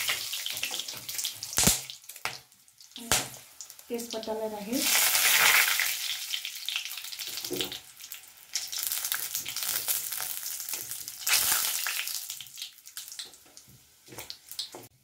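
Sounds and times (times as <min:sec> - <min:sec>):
spices sizzling in hot oil: 0:00.0 - 0:15.0.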